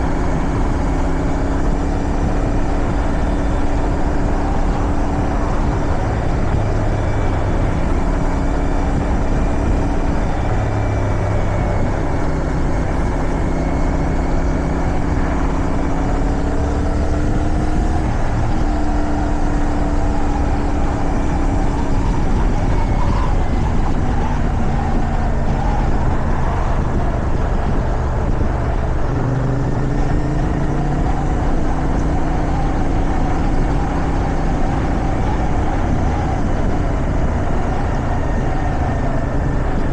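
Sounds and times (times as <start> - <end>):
motorcycle engine revving: 0.0 - 39.9
rushing wind noise: 0.0 - 39.9.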